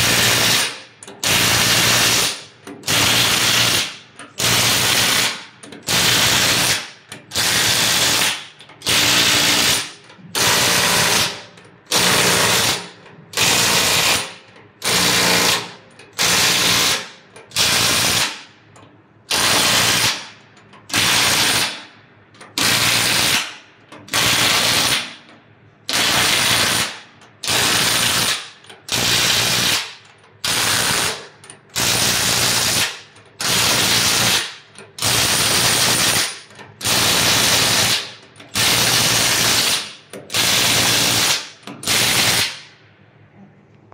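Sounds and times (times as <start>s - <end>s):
impact wrench bursts: 0.0s - 18.6s, 19.3s - 25.2s, 25.8s - 42.7s.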